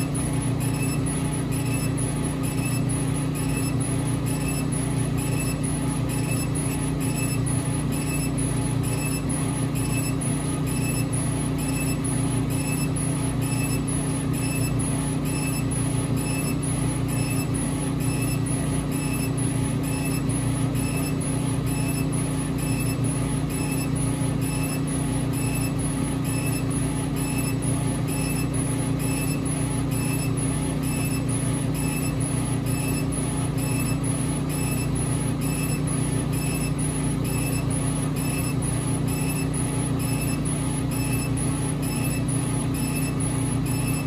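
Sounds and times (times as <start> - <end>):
high-pitched laser head whine: 0.0 - 44.0
laser cutter mechanical hum: 0.0 - 44.0.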